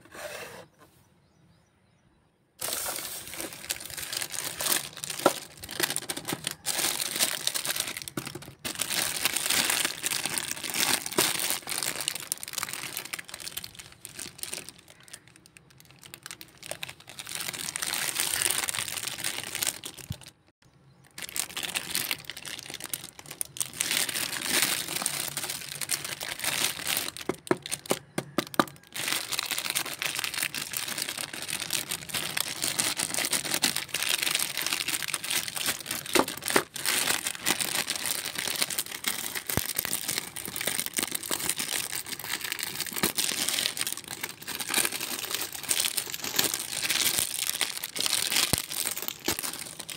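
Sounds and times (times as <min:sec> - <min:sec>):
plastic packaging crinkling: 0:02.6 - 0:49.9.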